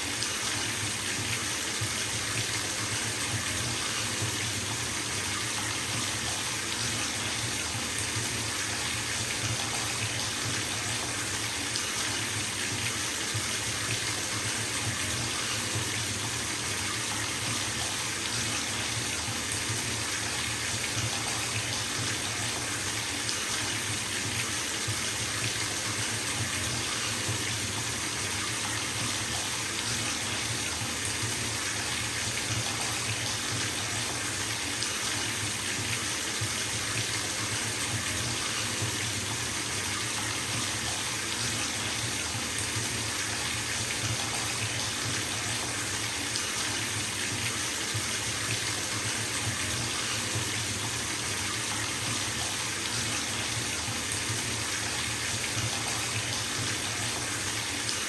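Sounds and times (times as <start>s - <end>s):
tap running into bathtub: 0.2s - 58.0s.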